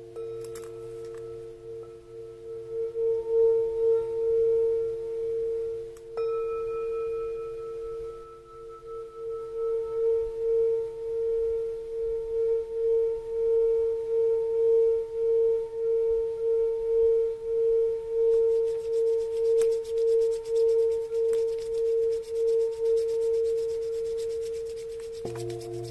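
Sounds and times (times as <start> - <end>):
singing bowl ringing: 0.0 - 25.9.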